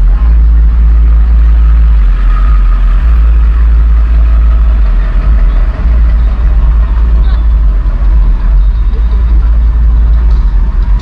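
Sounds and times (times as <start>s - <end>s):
traffic engines low rumble: 0.0s - 11.0s.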